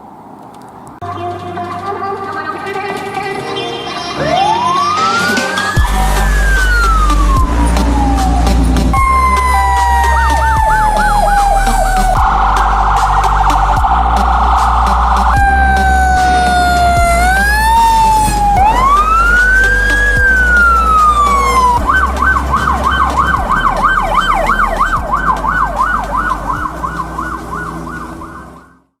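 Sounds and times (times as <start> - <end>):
truck engine rumble: 0.0 - 29.0
fire engine siren: 4.2 - 29.0.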